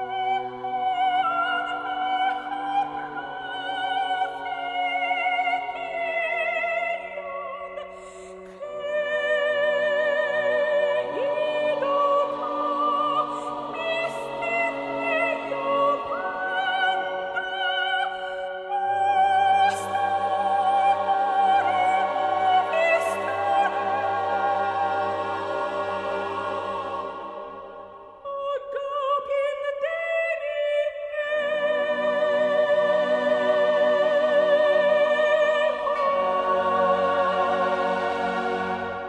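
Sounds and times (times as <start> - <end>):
operatic singing with orchestra: 0.0 - 39.0.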